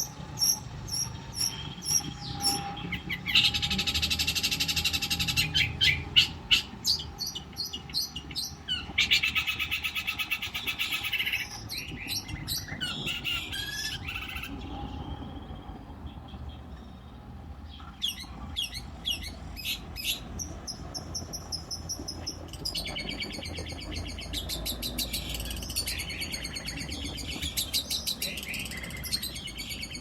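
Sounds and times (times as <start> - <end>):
shrike singing rattling trills: 0.0 - 17.1, 17.8 - 30.0.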